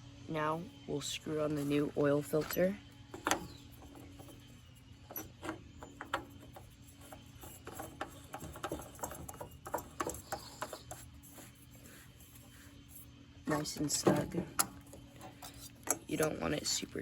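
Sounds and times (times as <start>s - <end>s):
oil filter clicking and scraping: 1.5s - 16.8s.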